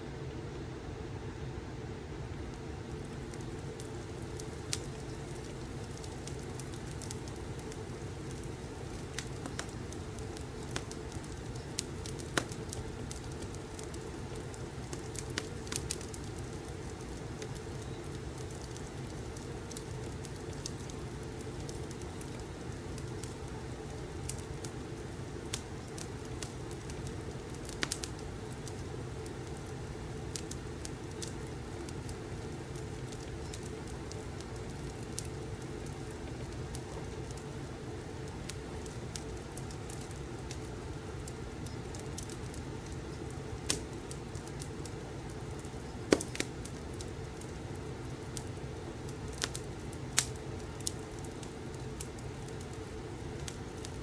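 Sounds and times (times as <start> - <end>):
fireplace low rushing: 0.0 - 54.0
fire popping and snapping: 2.3 - 54.0.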